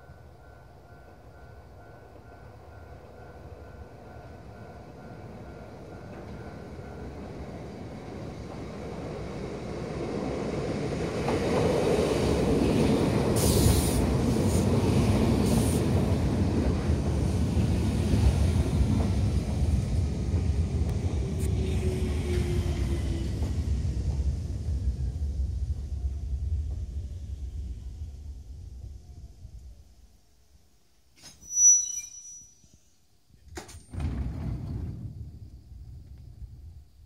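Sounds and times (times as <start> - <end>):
electric train rumble: 0.0 - 30.8.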